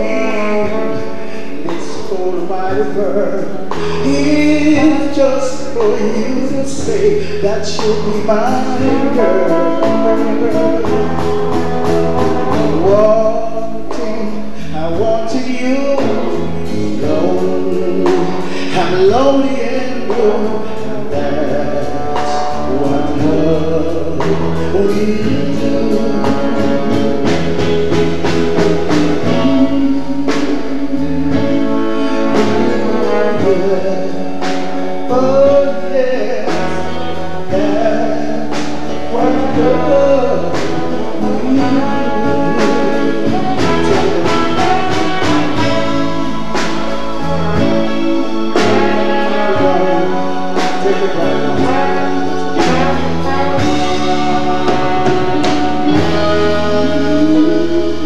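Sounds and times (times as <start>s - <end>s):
live reggae band with brass: 0.0s - 58.0s.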